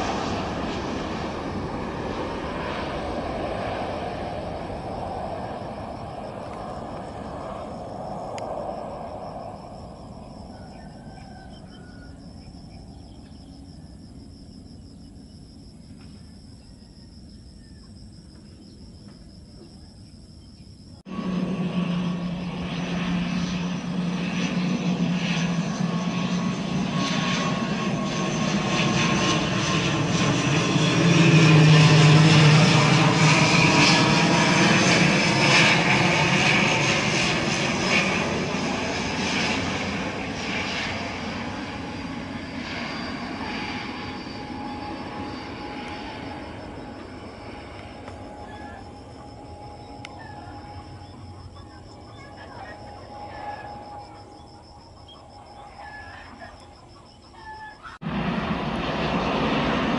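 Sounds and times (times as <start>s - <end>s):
turboprop aircraft engines droning: 0.0s - 59.9s
faint insect chirping: 1.9s - 21.1s, 22.3s - 58.0s.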